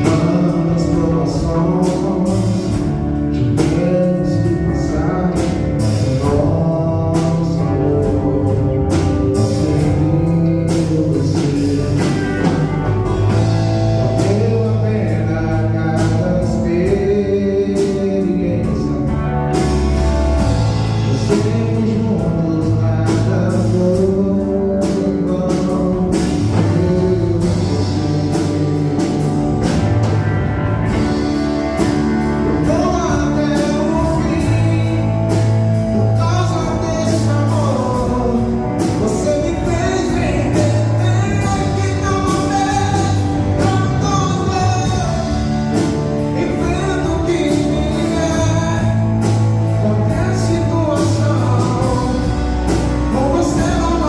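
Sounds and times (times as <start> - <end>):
drums: 0.0 - 54.0
guitar: 0.0 - 54.0
person singing: 0.0 - 54.0.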